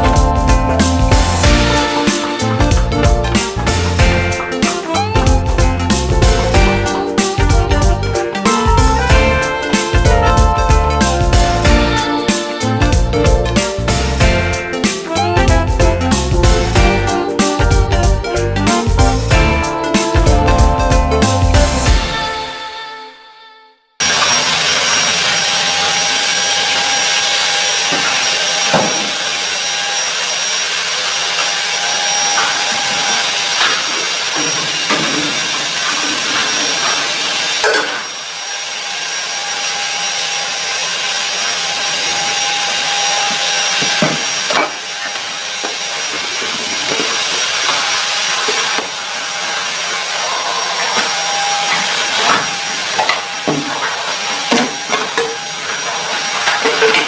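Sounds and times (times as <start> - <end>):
vacuum cleaner whining: 1.1 - 15.3, 24.0 - 57.0.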